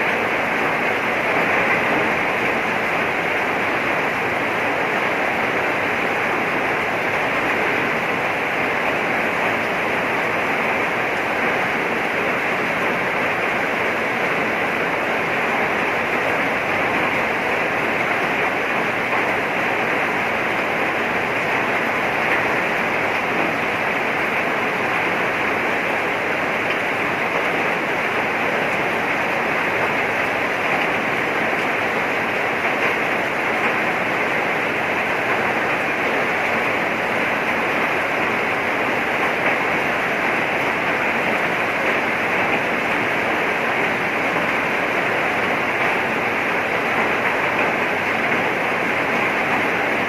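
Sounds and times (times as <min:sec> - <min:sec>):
heavy rain: 0:00.0 - 0:50.0.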